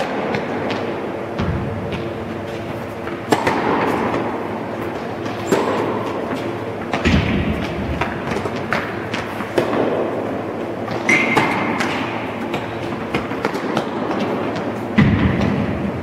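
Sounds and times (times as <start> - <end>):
tennis balls struck by rackets: 0.0 - 15.9
balls bouncing on indoor court: 0.0 - 16.0.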